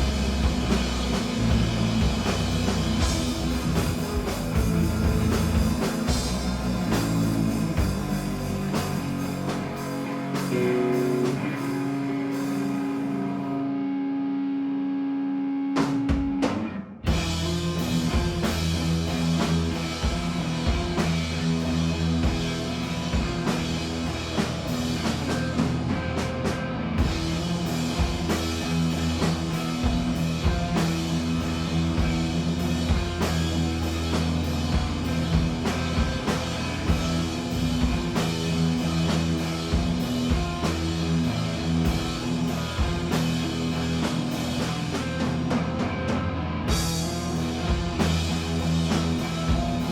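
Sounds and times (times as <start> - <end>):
drum kit: 0.0 - 13.5, 15.7 - 49.9
punk rock band playing: 0.0 - 49.9.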